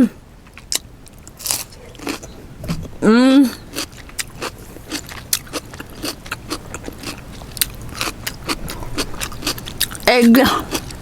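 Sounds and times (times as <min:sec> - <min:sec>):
crunching and chewing cucumber: 0:00.4 - 0:02.9, 0:03.6 - 0:11.0.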